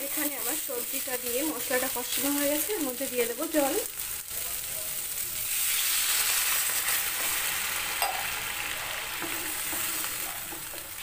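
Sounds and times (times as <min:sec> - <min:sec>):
water sizzling in hot pan: 0:00.0 - 0:11.0.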